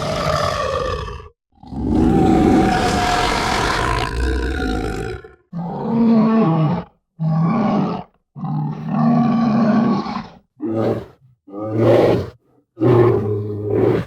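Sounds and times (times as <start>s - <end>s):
bear roaring and growling: 0.0s - 14.0s.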